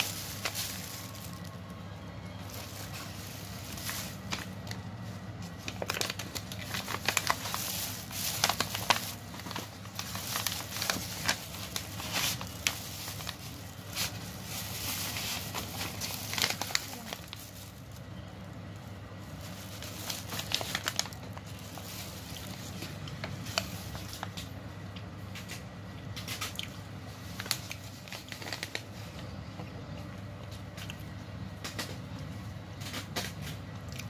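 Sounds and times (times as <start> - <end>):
plastic bag and paper crinkling: 0.0 - 24.6, 25.2 - 34.0.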